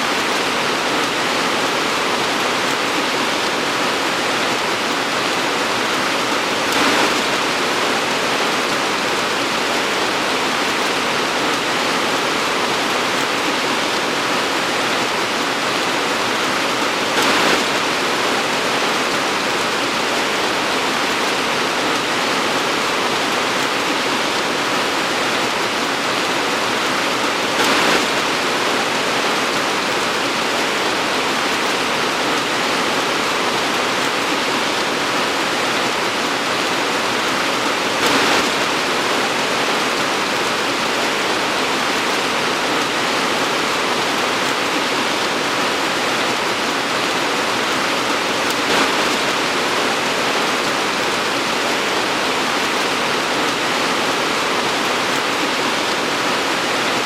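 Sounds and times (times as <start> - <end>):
torrential rain pouring: 0.0 - 57.0.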